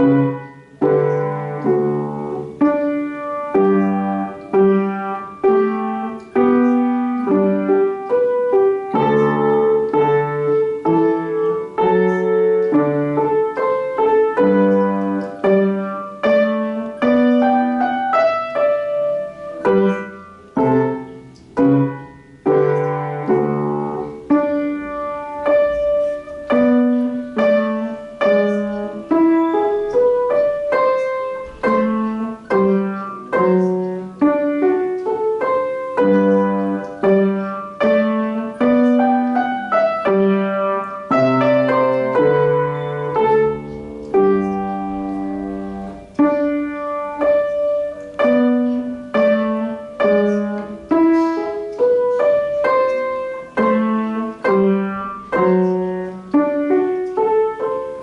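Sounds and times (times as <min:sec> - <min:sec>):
solo classical piano piece: 0:00.0 - 0:58.0.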